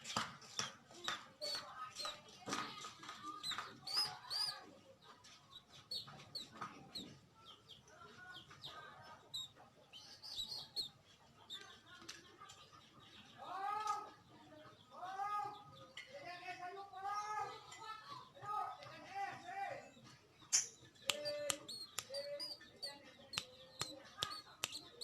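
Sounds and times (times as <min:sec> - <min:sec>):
bird chirping: 0:00.0 - 0:16.1, 0:16.8 - 0:25.0.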